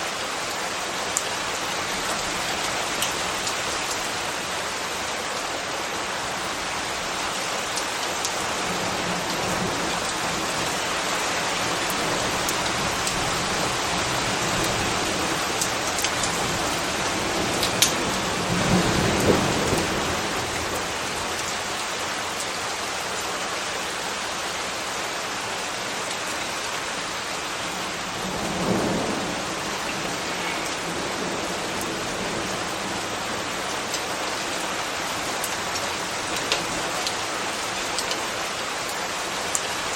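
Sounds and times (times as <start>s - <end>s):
rain pattering on hard surfaces: 0.0s - 39.9s.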